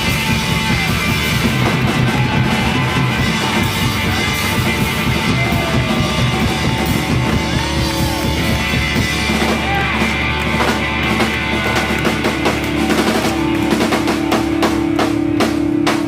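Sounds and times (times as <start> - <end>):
live rock band playing loud: 0.0 - 16.0.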